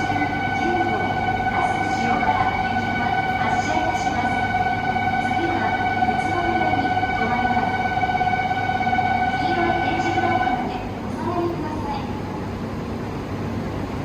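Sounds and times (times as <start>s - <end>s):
train high whine: 0.0s - 14.0s
train rumble: 0.0s - 14.0s.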